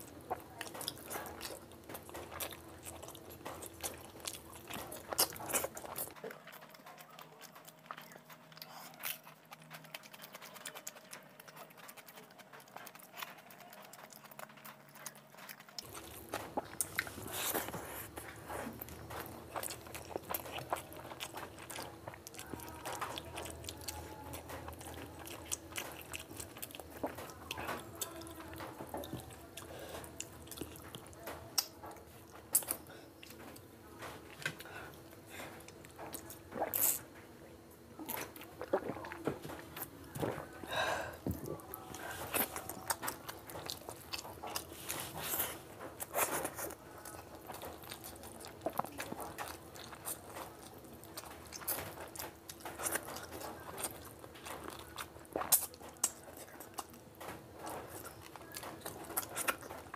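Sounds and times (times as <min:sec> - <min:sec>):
person chewing: 0:00.0 - 0:37.2, 0:37.9 - 0:59.9.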